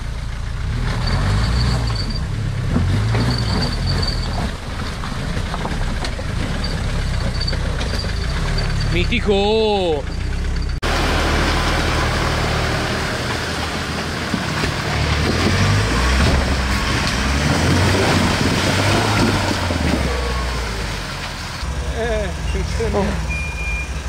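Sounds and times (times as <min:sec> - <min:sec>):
vehicle engine at low revs: 0:00.0 - 0:24.0.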